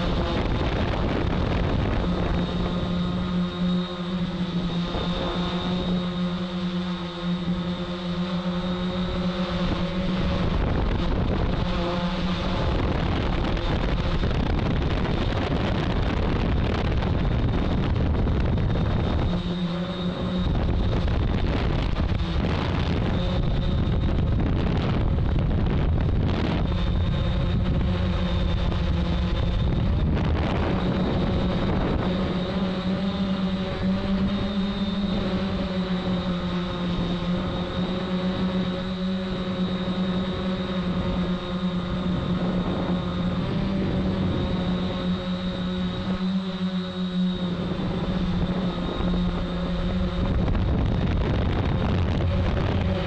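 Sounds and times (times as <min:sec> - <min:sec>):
drone propellers humming: 0:00.0 - 0:53.0
wind noise on microphone: 0:00.0 - 0:53.0.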